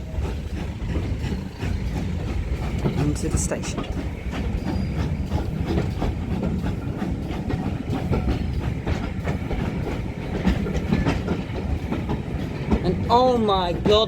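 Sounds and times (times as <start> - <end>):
train carriage rumbling: 0.0 - 14.0
wheels clattering over rails: 0.0 - 14.0.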